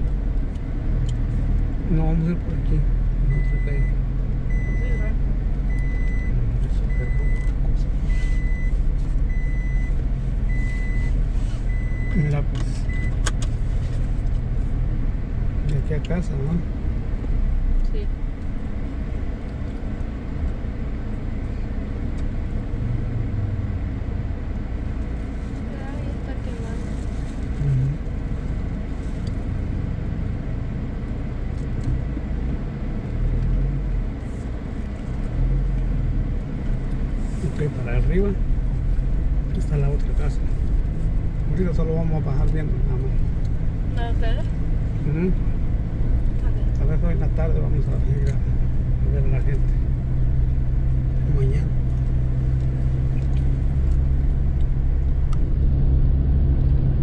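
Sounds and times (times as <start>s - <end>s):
car driving slowly: 0.0s - 57.0s
vehicle engine running: 0.0s - 57.0s.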